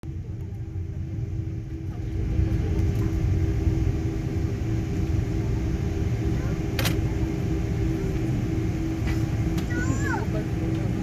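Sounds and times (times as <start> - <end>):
airliner engine rumble: 0.0 - 11.0.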